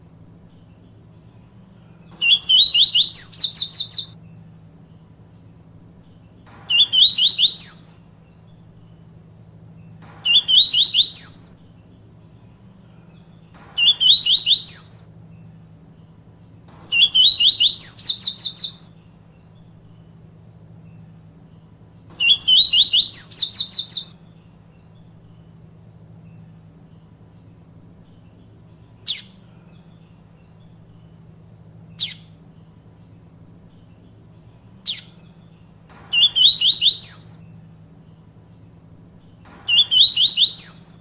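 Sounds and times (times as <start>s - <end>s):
faint low hum: 0.0s - 41.0s
bird singing rising trills: 0.2s - 41.0s.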